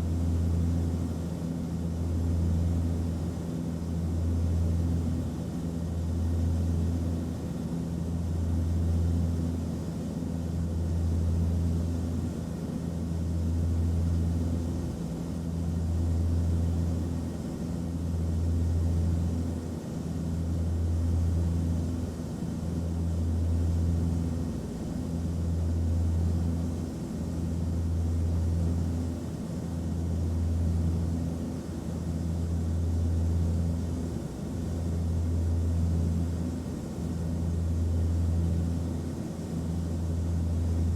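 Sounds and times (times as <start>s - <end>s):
airliner engine drone: 0.0s - 40.9s.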